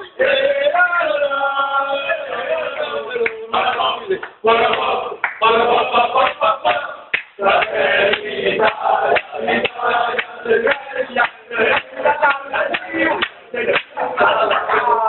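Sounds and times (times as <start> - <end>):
crowd chanting and singing: 0.0 - 15.0.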